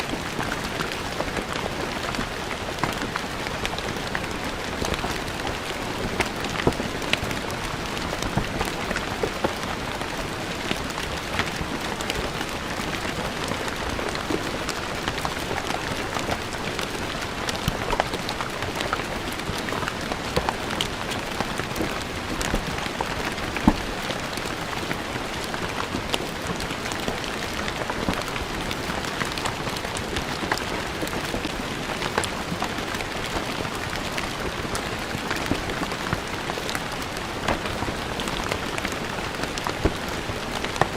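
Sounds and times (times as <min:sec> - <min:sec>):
rain falling on stone: 0:00.0 - 0:40.9.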